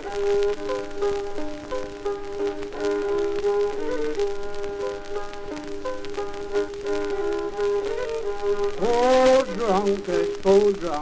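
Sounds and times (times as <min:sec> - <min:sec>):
record surface crackle: 0:00.0 - 0:11.0.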